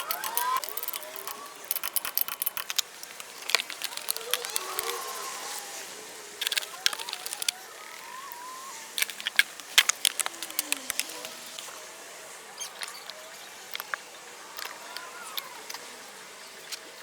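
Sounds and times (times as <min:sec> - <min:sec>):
hand tools and metal parts clinking: 0:00.0 - 0:05.8, 0:06.4 - 0:11.9, 0:12.6 - 0:15.9.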